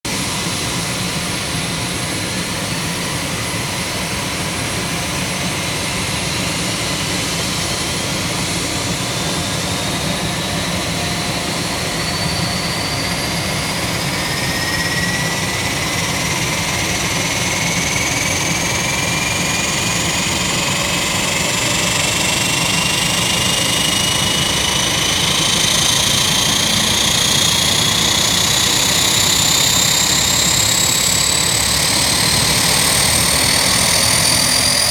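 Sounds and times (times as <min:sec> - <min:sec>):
turboprop engine starting: 0:00.1 - 0:34.9.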